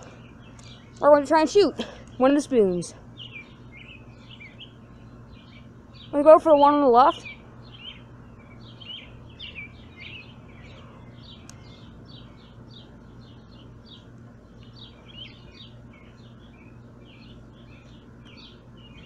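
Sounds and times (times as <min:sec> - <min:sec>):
faint low hum: 0:00.0 - 0:19.0
small birds chirping: 0:00.0 - 0:19.0.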